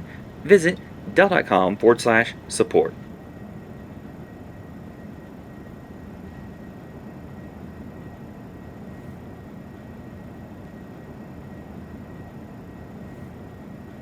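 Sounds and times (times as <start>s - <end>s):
faint high whine: 0.0s - 14.0s
room noise hum and hiss: 0.0s - 14.0s.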